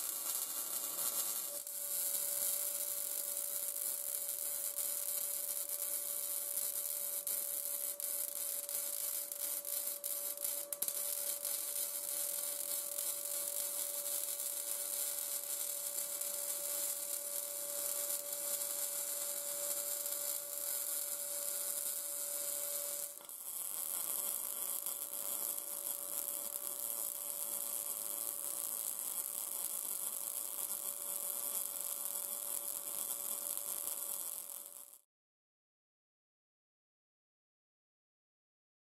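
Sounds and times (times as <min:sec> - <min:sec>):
welding arc hissing and crackling: 0:00.0 - 0:35.0.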